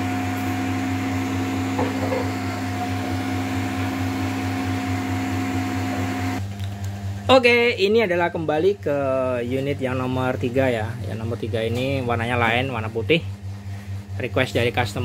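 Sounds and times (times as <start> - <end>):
low hum: 0.0 - 14.8
amplifier cooling fan whir: 0.0 - 15.0.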